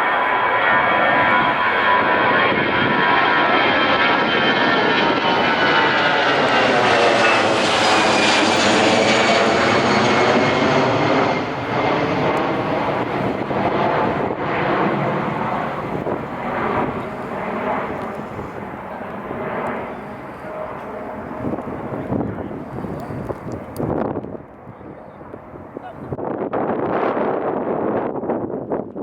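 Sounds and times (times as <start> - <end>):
airliner engines whining: 0.0 - 26.4
aircraft rumble: 0.0 - 28.9.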